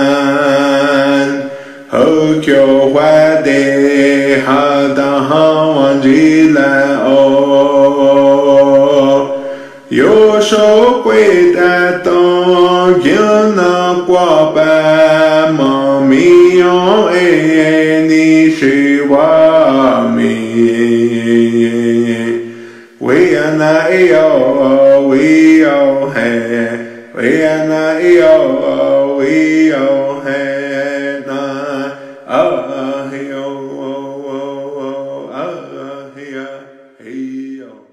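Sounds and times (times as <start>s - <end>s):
person singing a chant: 0.0s - 37.9s.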